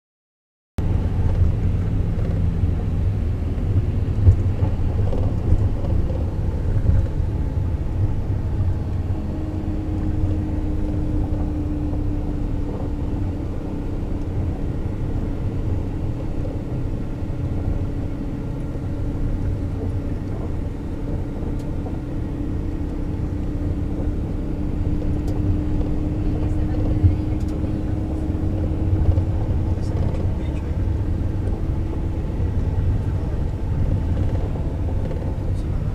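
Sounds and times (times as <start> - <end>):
bus engine and road rumble: 0.8 - 35.9.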